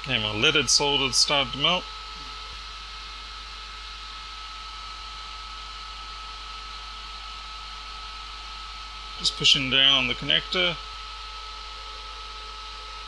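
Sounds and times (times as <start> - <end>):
extractor fan running: 0.0 - 13.0
low mains hum: 0.0 - 13.0
thin steady whine: 0.0 - 13.0.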